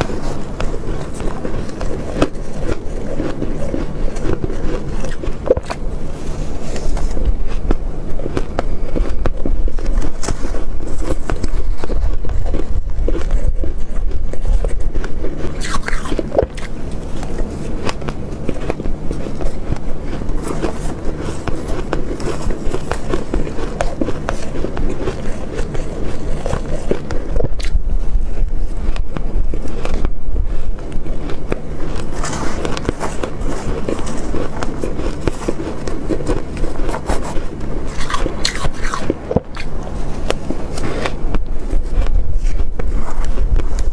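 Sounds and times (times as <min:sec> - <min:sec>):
chewing and crunching shaved ice: 0:00.0 - 0:43.9.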